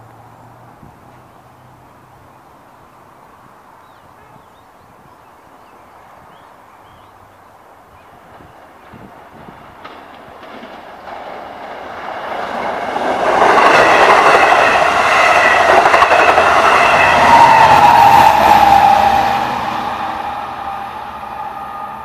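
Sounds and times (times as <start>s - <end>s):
train passing on rails: 0.0s - 22.0s.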